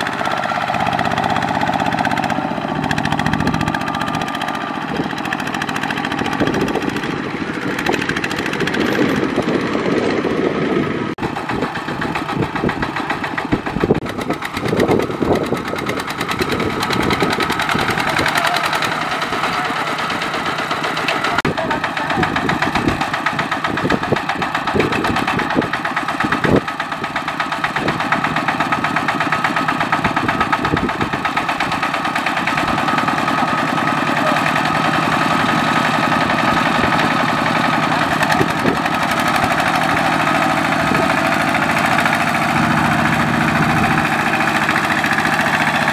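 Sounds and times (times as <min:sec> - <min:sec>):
diesel tractor engine chugging: 0:00.0 - 0:45.9.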